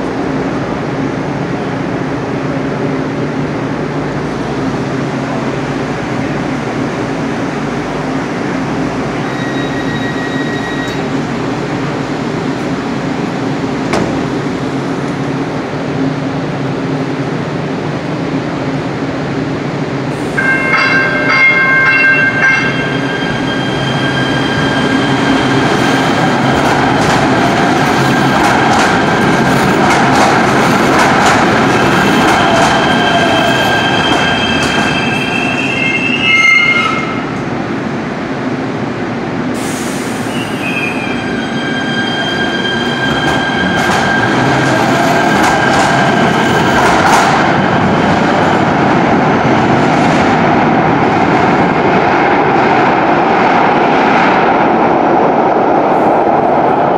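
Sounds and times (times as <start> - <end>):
train rumbling in tunnel: 0.0 - 56.9.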